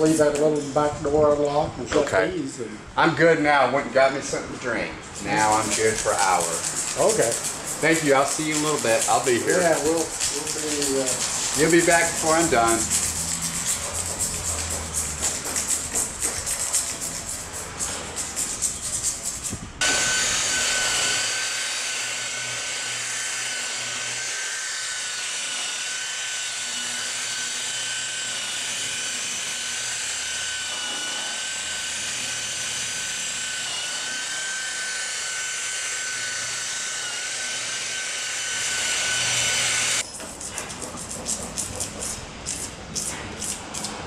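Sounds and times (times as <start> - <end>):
hand pad scrubbing metal: 5.0 - 36.2, 37.2 - 44.0.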